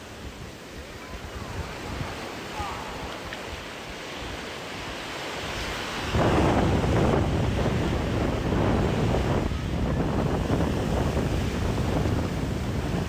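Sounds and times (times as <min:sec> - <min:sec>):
surf washing: 0:00.0 - 0:13.0
wind buffeting microphone: 0:00.0 - 0:13.0.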